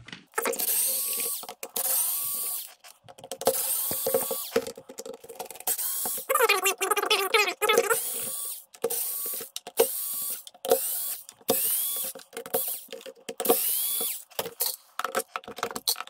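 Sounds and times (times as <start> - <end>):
electric screwdriver whining: 0.4 - 2.8, 3.4 - 4.8, 5.5 - 14.8
tools and screws clicking: 0.4 - 6.5, 7.7 - 16.0.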